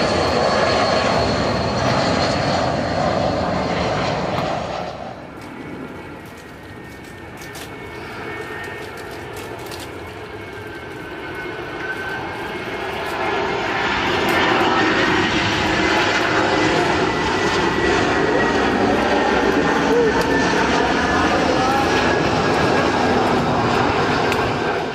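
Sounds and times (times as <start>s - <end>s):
jet engine rushing with whine: 0.0s - 24.9s.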